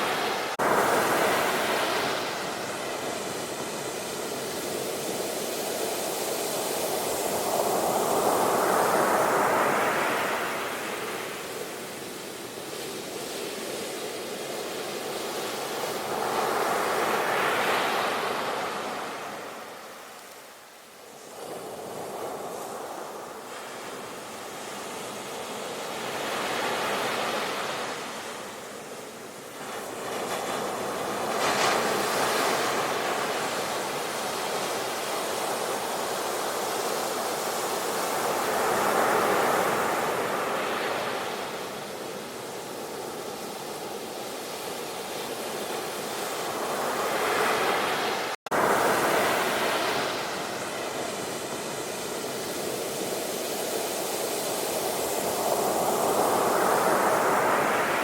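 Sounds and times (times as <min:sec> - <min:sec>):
sea waves washing on shore: 0:00.0 - 0:58.0.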